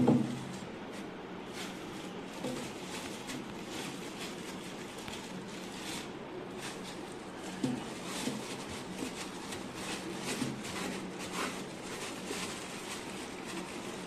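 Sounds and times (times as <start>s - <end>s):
plastic bag rustling: 0.0s - 14.0s
scraping wet bedding in glass tank: 0.0s - 14.0s
steady low hum: 0.0s - 14.0s.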